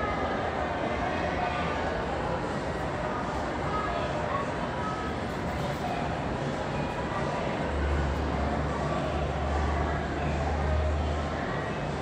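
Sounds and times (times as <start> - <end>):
low city rumble: 0.0 - 12.0.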